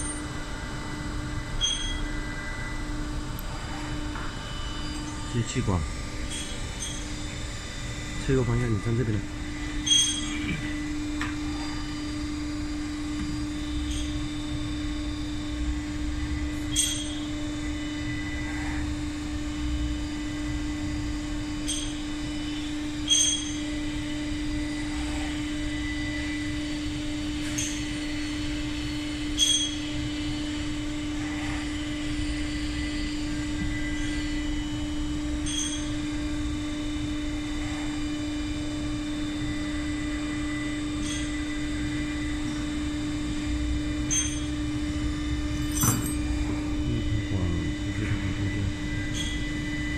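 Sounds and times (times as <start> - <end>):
machinery hum: 0.0 - 49.9.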